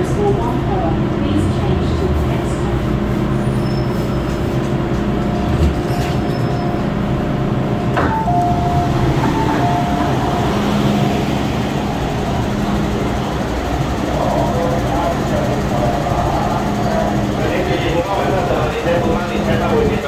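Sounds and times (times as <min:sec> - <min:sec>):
train wheels and motors rumbling: 0:00.0 - 0:20.0.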